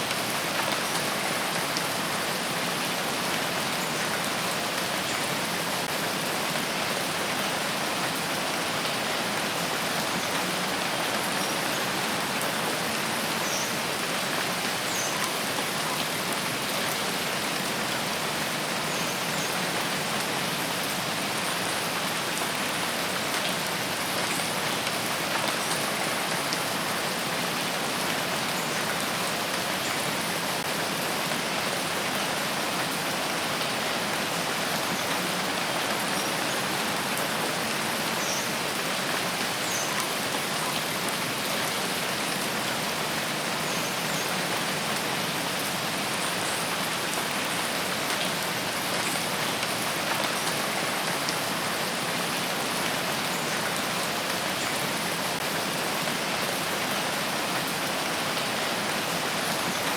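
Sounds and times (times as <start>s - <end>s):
rain on leaves and ground: 0.0s - 59.9s.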